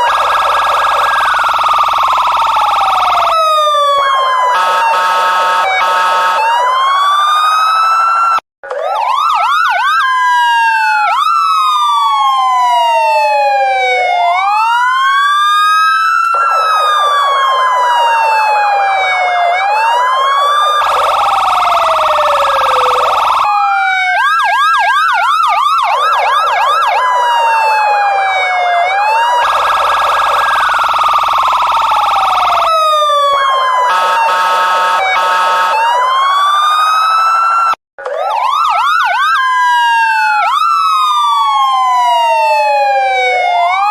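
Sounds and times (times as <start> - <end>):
police car siren: 0.0 - 43.9.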